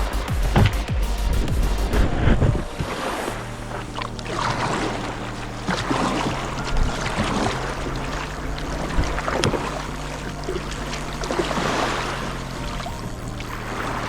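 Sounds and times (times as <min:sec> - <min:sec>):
sea and wind noise: 0:00.6 - 0:14.0
paddle splashing in water: 0:01.9 - 0:14.0.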